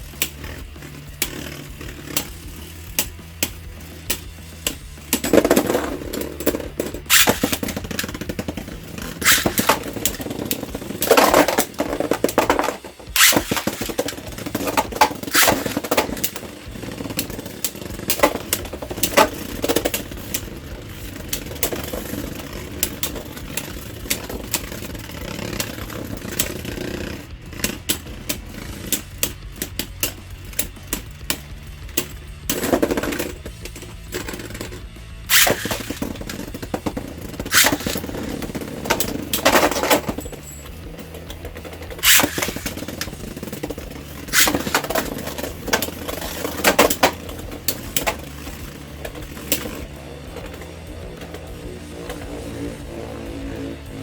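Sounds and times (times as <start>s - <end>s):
background music: 0.0s - 54.0s
spinning tops whirring: 0.0s - 54.0s
tops clashing clacks: 0.0s - 54.0s.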